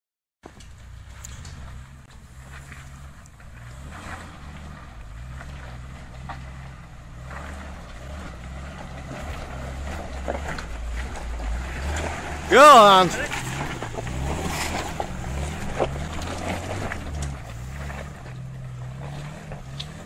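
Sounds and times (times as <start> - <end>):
stones knocking under tyres: 0.4 - 12.4, 13.3 - 20.0
vehicle engine at low revs: 0.4 - 20.0.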